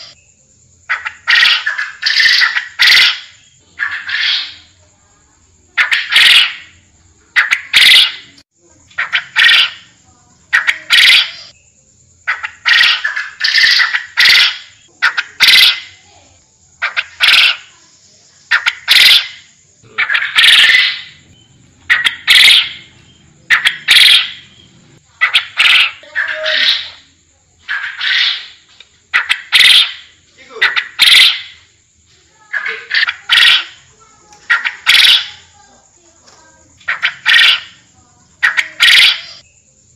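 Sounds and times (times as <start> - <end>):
quail calling: 0.9 - 4.7, 5.8 - 9.9, 10.5 - 11.6, 12.3 - 16.1, 16.8 - 17.8, 18.5 - 31.7, 32.5 - 35.5, 36.7 - 37.8, 38.4 - 39.4.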